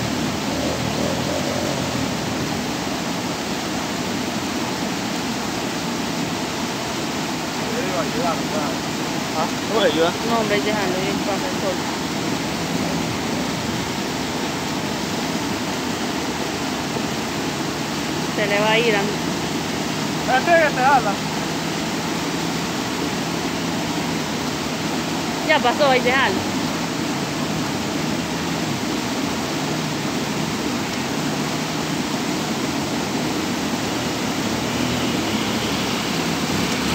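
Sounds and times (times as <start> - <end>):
floodwater rushing over spillway: 0.0 - 36.9.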